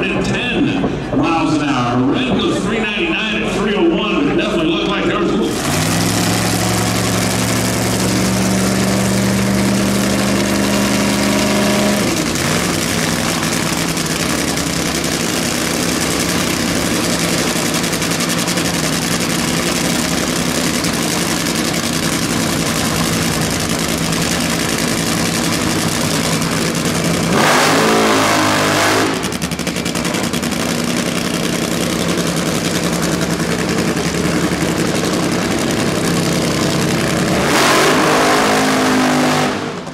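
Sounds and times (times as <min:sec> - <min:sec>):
dragster engines idling: 0:00.0 - 0:39.9
engine throttle burst: 0:05.4 - 0:20.2, 0:20.9 - 0:39.9.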